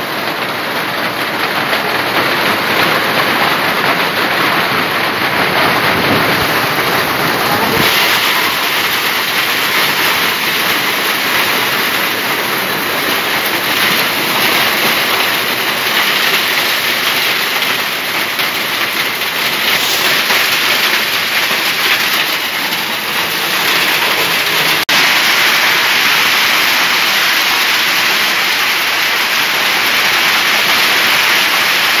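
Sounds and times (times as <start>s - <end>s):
hail and heavy rain pelting: 0.0s - 32.0s.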